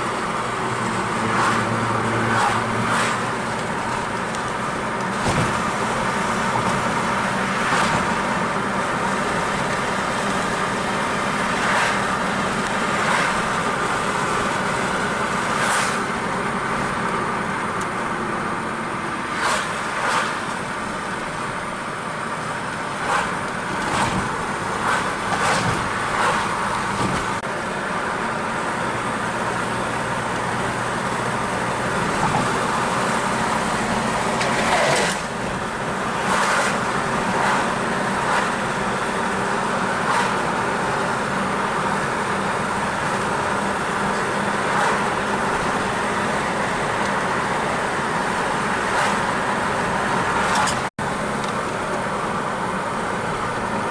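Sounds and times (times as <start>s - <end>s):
car engine and tyre noise: 0.0s - 53.9s.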